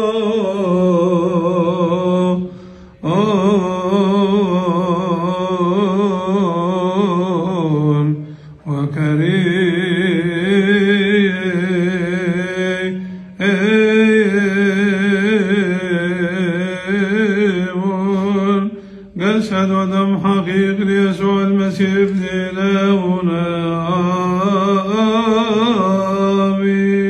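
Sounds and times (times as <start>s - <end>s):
man chanting: 0.0s - 27.0s.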